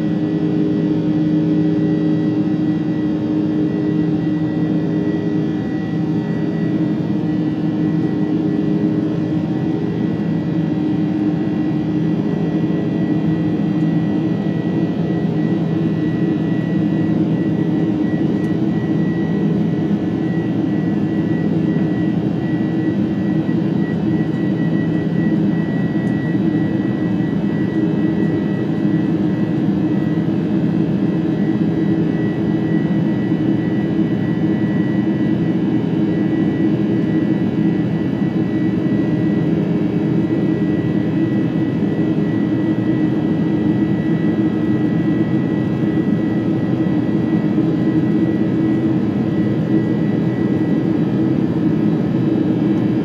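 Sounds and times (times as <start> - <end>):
jet engines rushing in cabin: 0.0 - 53.0.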